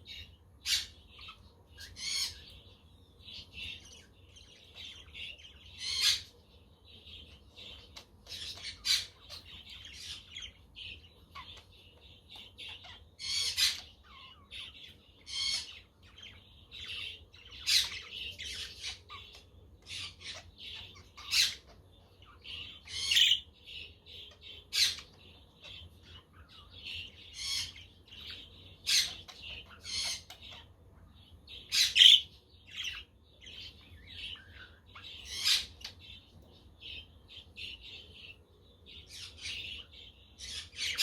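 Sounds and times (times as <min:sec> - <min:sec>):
budgerigars chattering: 0:00.0 - 0:02.6, 0:03.3 - 0:06.4, 0:07.2 - 0:30.8, 0:31.6 - 0:38.4.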